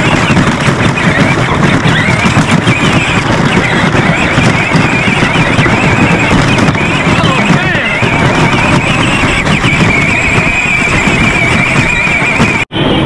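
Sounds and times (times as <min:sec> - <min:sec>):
plastic wheels crunching over leaves: 0:00.0 - 0:12.5.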